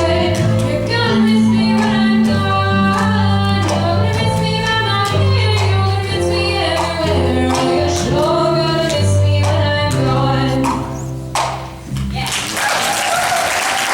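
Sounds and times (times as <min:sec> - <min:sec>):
live band with singers: 0:00.0 - 0:13.5.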